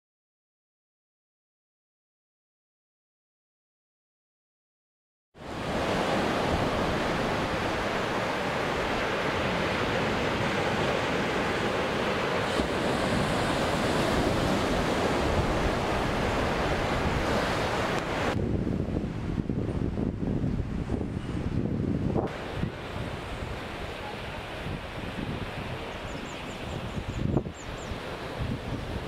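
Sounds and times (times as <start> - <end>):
surf breaking on sandy beach: 5.4 - 29.0
wind buffeting microphone: 5.6 - 29.0.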